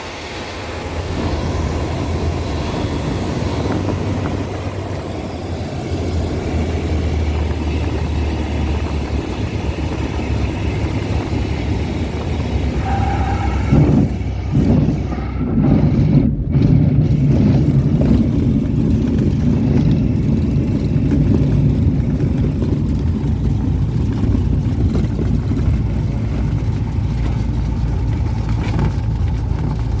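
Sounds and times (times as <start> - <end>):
light aircraft rolling on grass: 0.0 - 30.0.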